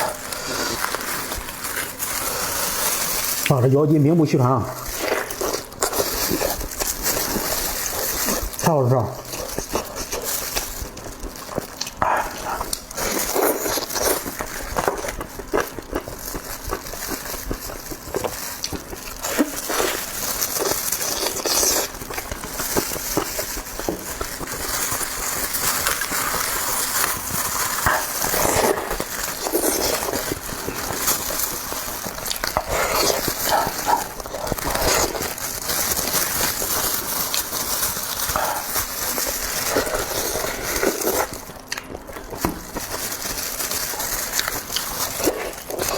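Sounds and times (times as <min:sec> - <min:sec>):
person chewing food: 0:00.0 - 0:03.6, 0:04.7 - 0:45.9.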